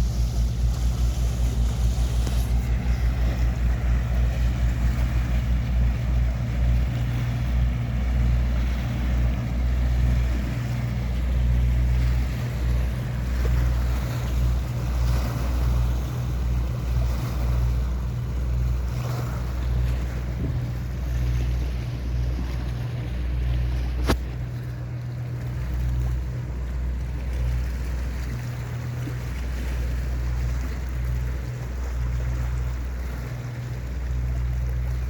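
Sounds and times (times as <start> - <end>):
boat engine humming: 0.0 - 35.0
water noise: 0.0 - 35.0
wind: 0.0 - 35.0.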